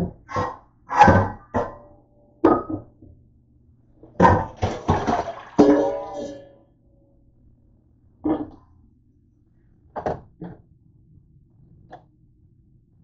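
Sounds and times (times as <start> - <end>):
faint low hum: 1.7 - 13.0.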